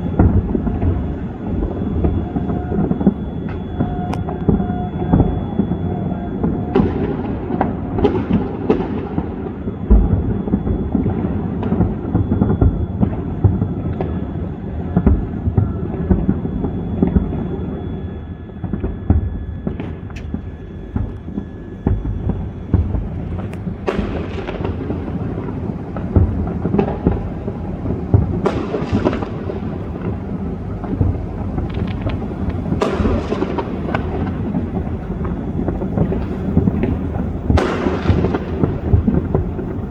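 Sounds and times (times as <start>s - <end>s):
fireworks booming: 0.0s - 17.8s, 18.6s - 39.9s
fireworks crackling bursts: 0.0s - 17.8s, 19.6s - 39.9s.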